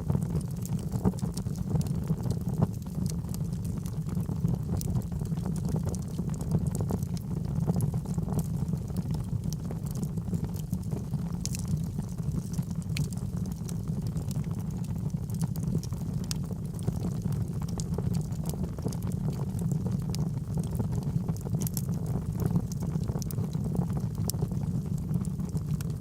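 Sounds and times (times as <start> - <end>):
burning logs crackling and popping: 0.0 - 26.0
fire flames rumbling: 0.0 - 26.0.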